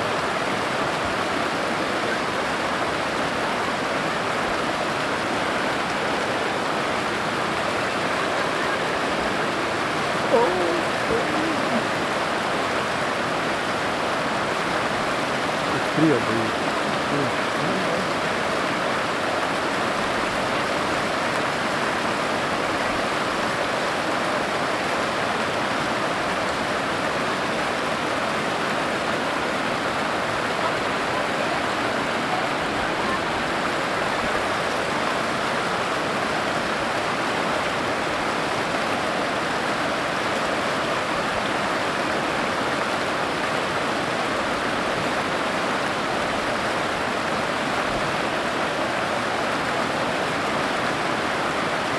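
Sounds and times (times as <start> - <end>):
river rushing through rapids: 0.0 - 51.9.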